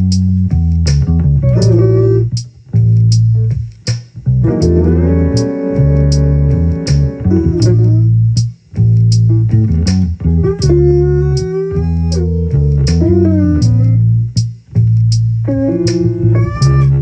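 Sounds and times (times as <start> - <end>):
electric bass low notes: 0.0 - 17.0.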